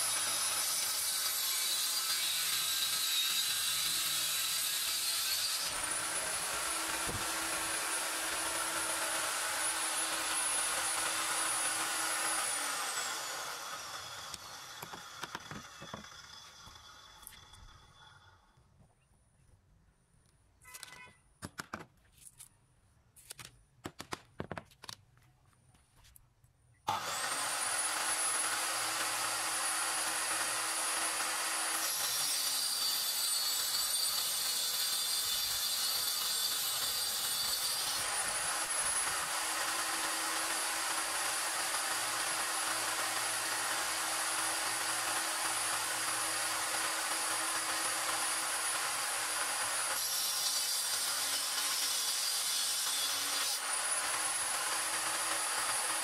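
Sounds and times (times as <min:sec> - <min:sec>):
saw cutting board: 0:00.0 - 0:18.3, 0:26.9 - 0:56.0
table saw blade whine: 0:00.0 - 0:18.6, 0:26.9 - 0:56.0.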